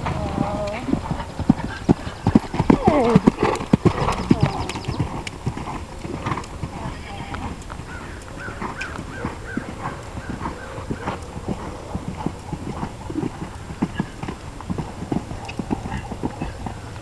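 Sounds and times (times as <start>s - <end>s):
horse hoofbeats on sand: 0.0s - 17.0s.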